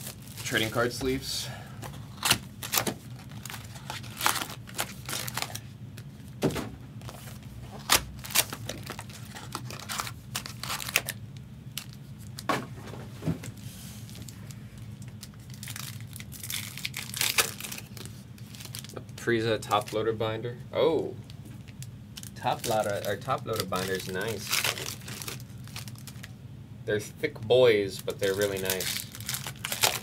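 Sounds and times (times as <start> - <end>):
plastic and foil packs crinkling: 0.0 - 6.3, 7.0 - 12.5, 13.5 - 20.0, 21.6 - 26.3, 28.0 - 30.0.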